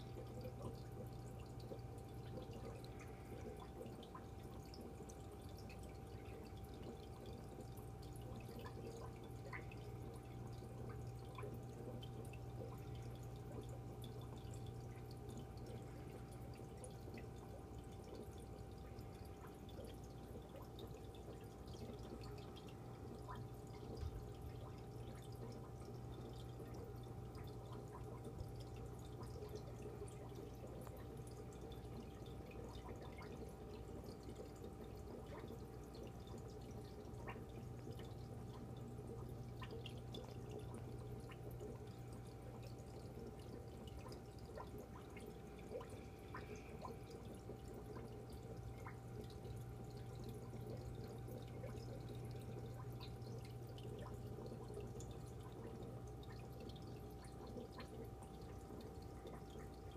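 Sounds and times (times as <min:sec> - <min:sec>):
steady low hum: 0:00.0 - 0:59.9
water trickling and dripping: 0:00.0 - 0:59.9.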